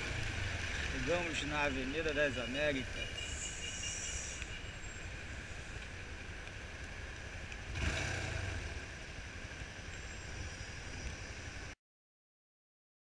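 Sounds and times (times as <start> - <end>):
car engines in traffic: 0.0 - 11.8.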